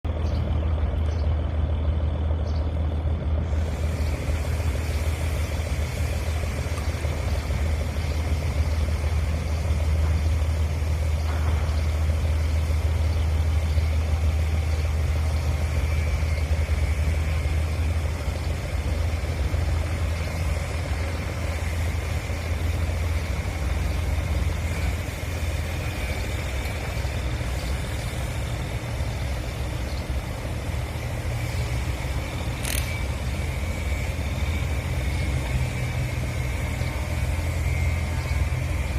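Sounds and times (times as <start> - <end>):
ship engine droning: 0.0 - 38.9
rushing noise: 1.6 - 38.9.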